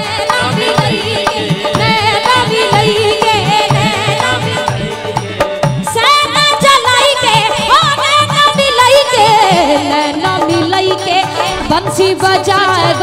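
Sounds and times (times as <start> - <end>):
tabla rhythm: 0.0 - 13.0.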